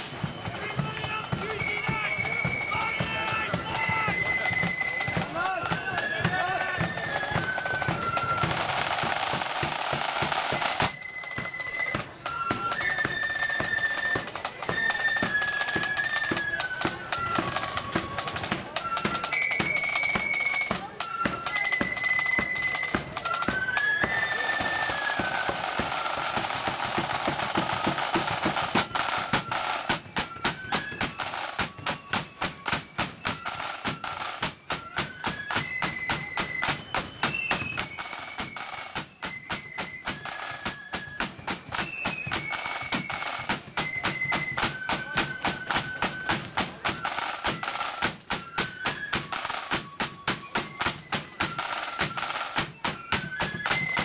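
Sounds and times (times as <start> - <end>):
flutes playing march melody: 0.0 - 54.0
rapid snare drumming: 0.0 - 54.0.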